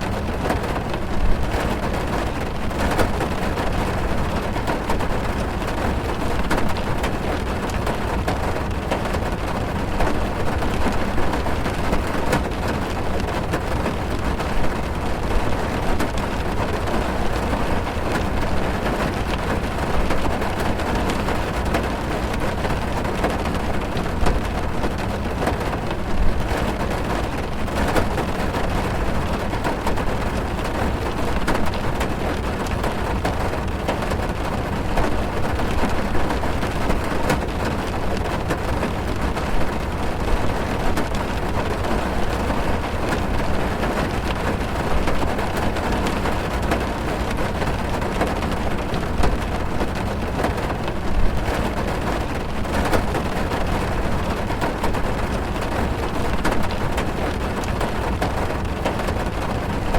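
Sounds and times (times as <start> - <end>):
rain on car roof: 0.0 - 59.9.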